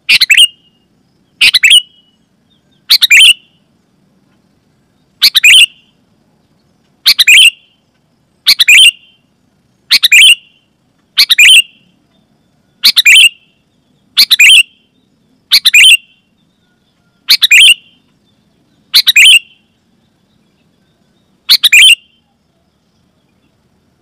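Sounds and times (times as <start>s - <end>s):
bird calling chirpy phrases: 0.0s - 3.8s, 5.0s - 7.8s, 8.4s - 23.5s.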